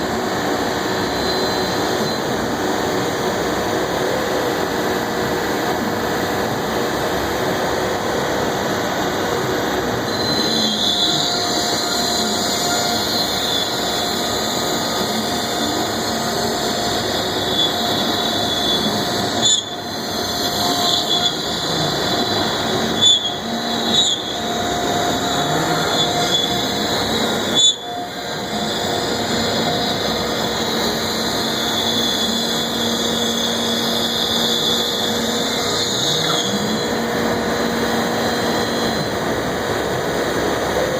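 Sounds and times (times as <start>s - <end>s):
high machine whine: 0.0s - 40.9s
router machine running: 0.0s - 40.9s.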